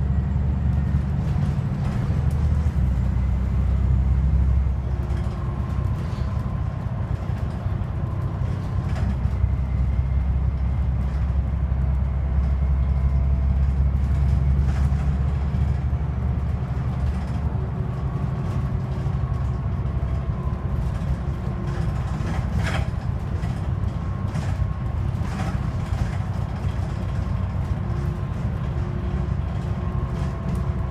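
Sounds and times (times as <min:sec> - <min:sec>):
bus engine and road drone: 0:00.0 - 0:30.9
light rattles from bus body: 0:00.0 - 0:30.9.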